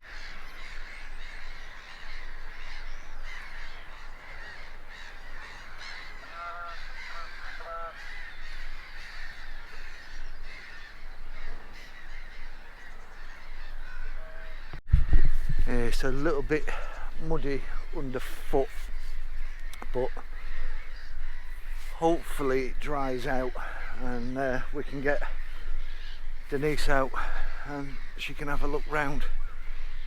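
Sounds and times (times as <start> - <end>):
short harsh bird calls: 0.0 - 30.0
wild birds chirping: 0.0 - 30.0.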